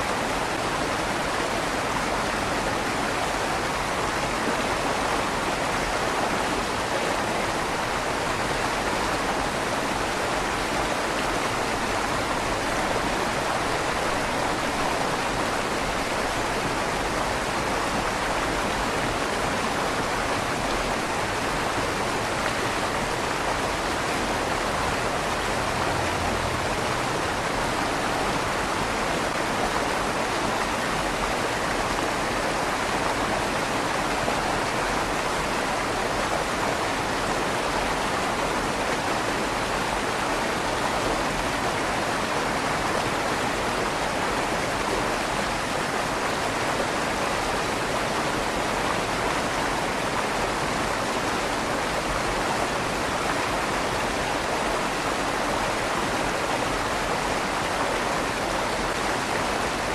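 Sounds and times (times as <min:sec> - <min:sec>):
river water rushing under bridge: 0:00.0 - 0:59.9.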